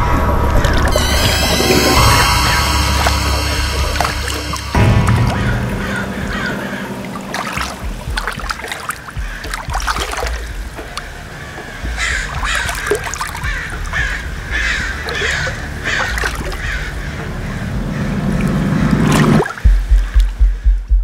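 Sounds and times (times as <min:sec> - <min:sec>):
low hum: 0:00.0 - 0:19.5
steady low rumble: 0:00.0 - 0:21.0
bird harsh calls: 0:00.9 - 0:19.1.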